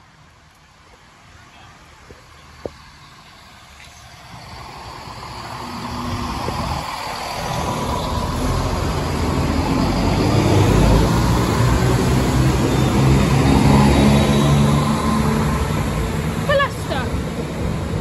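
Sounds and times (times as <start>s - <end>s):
diesel train approaching: 0.0s - 18.0s.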